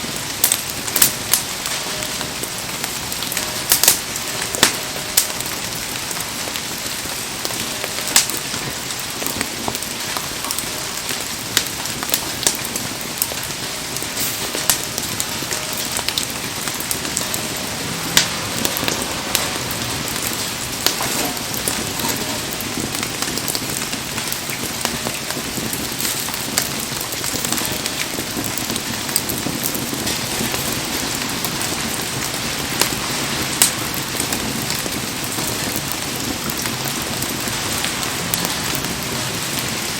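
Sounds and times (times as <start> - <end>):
campfire pops and crackles: 0.0 - 39.9
heavy rain: 0.0 - 39.9.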